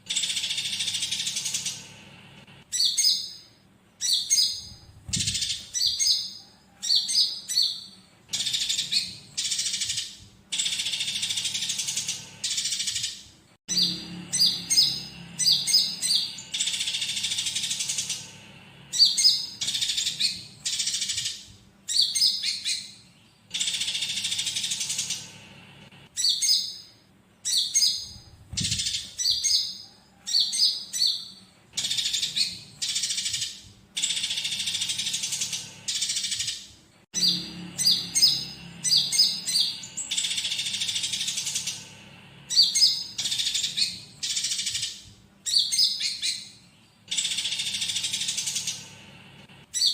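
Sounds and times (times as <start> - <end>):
sparrows chirping: 0.0 - 49.9
sunbird song with high trills: 2.6 - 25.5, 26.1 - 49.0.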